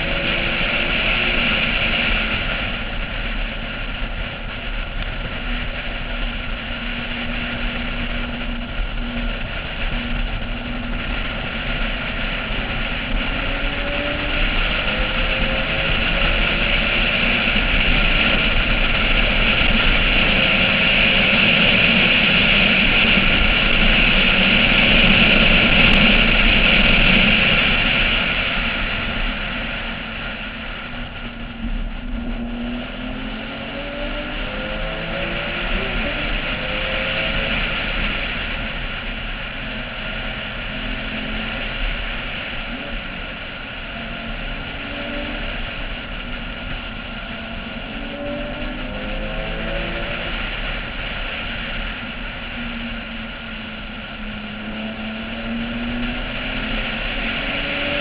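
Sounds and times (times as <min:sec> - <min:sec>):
car engine at speed: 0:00.0 - 0:58.0
wind rushing on camera: 0:00.0 - 0:58.0.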